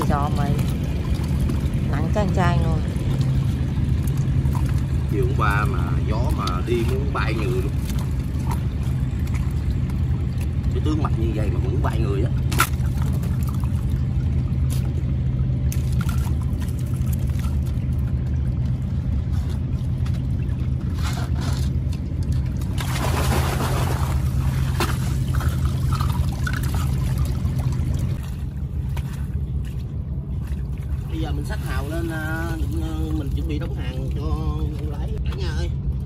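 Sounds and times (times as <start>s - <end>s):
water gushing and splashing: 0.0s - 35.2s
water trickling and pouring: 0.0s - 35.2s
low motor hum: 0.0s - 36.0s.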